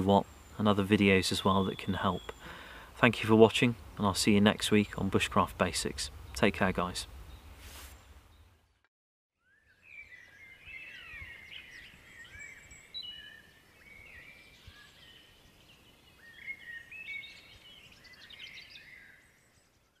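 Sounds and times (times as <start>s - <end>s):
songbirds chirping and whistling: 0.0s - 8.8s, 9.4s - 20.0s.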